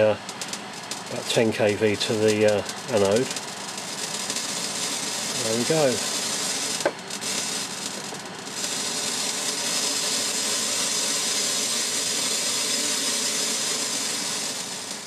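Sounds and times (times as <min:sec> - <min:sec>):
radiation counter hiss: 0:00.0 - 0:15.0.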